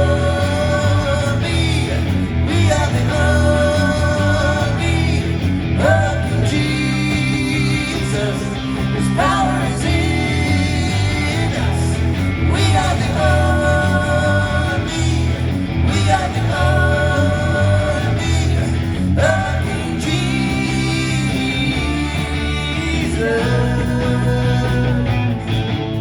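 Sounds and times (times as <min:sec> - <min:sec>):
bass line: 0:00.0 - 0:26.0
electric guitar: 0:00.0 - 0:26.0
rock band playing: 0:00.0 - 0:26.0.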